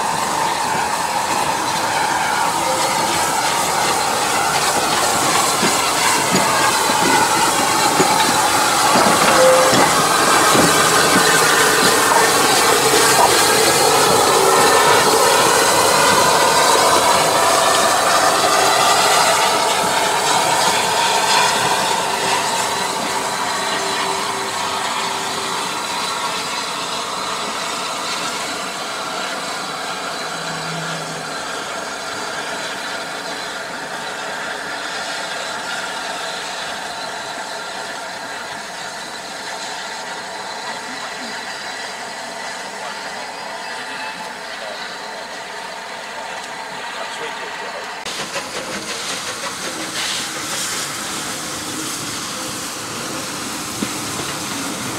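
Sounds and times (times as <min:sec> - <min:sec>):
steam locomotive hissing: 0:00.0 - 0:54.9.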